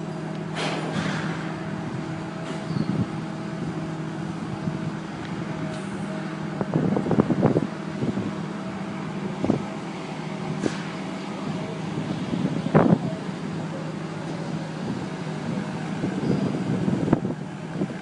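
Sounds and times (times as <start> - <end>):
boom lift engine running: 0.0 - 18.0.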